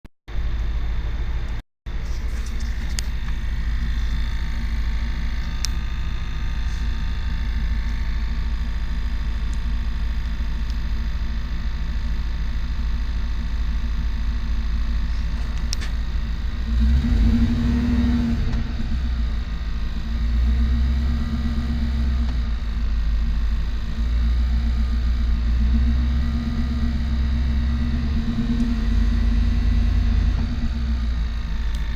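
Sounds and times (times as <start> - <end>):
engine idling with ticking: 1.4 - 31.9.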